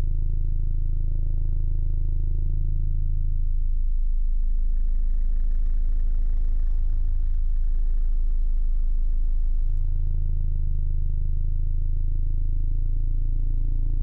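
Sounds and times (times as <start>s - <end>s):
deep subwoofer bass tone: 0.0s - 14.0s.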